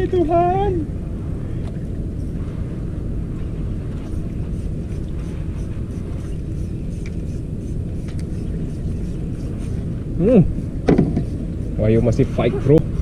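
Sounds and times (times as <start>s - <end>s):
small boat engine droning: 0.0s - 13.0s.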